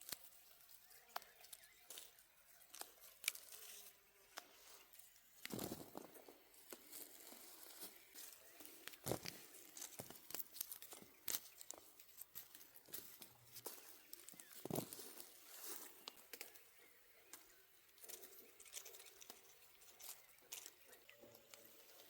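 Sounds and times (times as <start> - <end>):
leaves rustling: 0.0 - 22.0
light twig snaps and clicks: 0.0 - 22.0.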